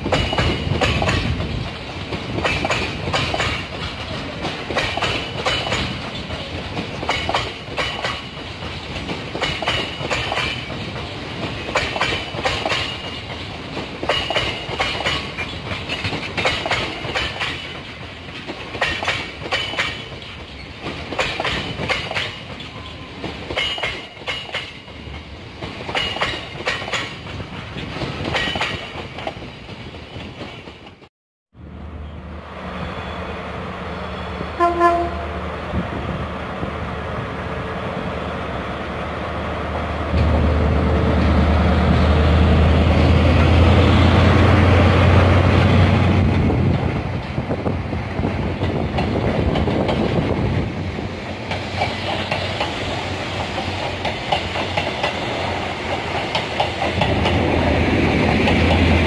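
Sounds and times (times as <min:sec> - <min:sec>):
train wheels clickety-clack: 0:00.0 - 0:31.1, 0:41.0 - 0:59.0.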